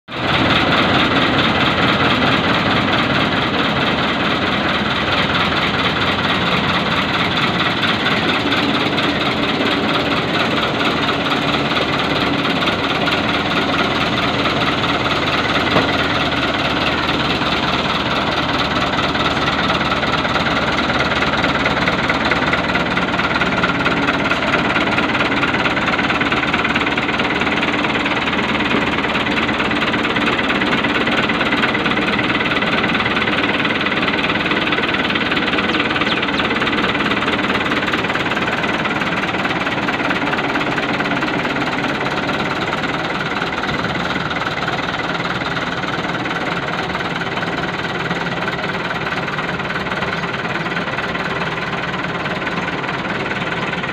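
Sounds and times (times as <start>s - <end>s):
tractor diesel engine running: 0.1s - 53.9s.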